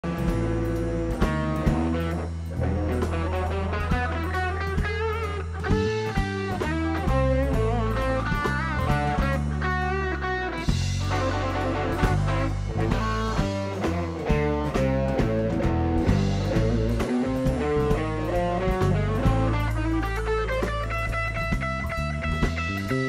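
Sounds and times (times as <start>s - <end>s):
bass line: 0.0s - 23.0s
drum kit: 0.0s - 23.0s
electric guitar with string bends: 0.0s - 23.0s.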